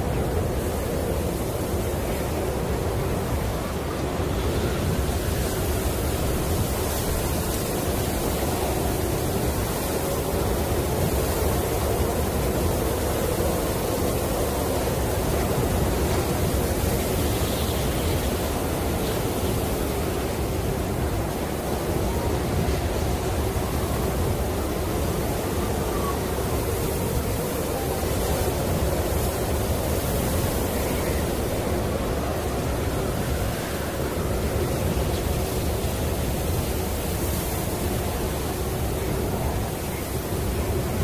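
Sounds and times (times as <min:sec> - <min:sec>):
wind blowing steadily: 0:00.0 - 0:41.0.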